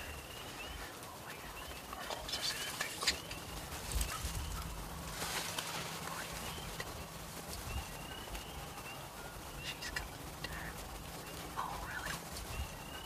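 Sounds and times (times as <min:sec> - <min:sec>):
faint bird chirps: 0:00.0 - 0:13.0
low steady rumble: 0:00.0 - 0:13.0.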